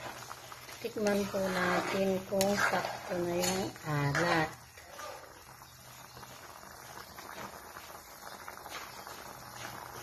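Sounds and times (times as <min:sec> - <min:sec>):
broth boiling and bubbling: 0:00.0 - 0:10.0.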